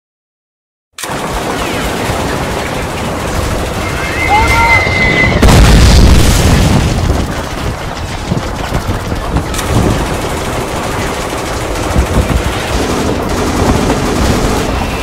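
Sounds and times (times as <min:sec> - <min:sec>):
rapid machine-gun fire: 0:01.0 - 0:04.6, 0:05.2 - 0:15.0.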